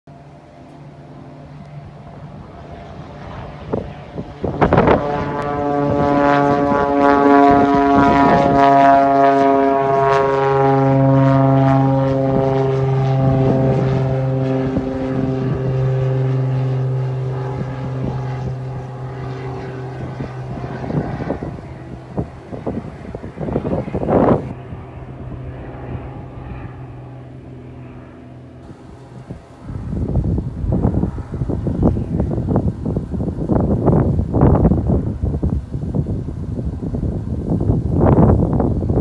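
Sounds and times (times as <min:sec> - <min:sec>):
airplane engine and propeller droning: 0:00.1 - 0:39.0.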